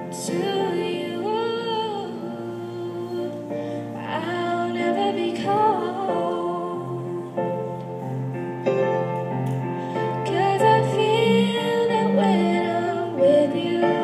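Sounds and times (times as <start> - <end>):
woman singing a ballad: 0.0 - 7.4, 10.1 - 14.0
piano accompaniment: 0.0 - 14.0.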